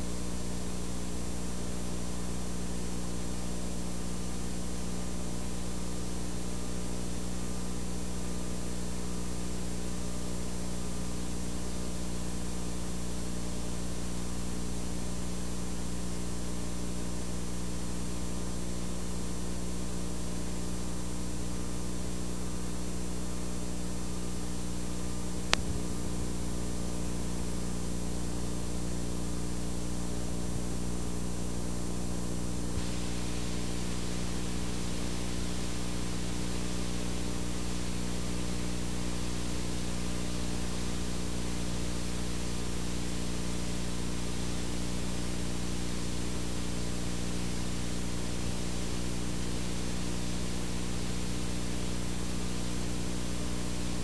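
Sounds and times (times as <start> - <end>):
electrical hum with hiss: 0.0 - 54.0.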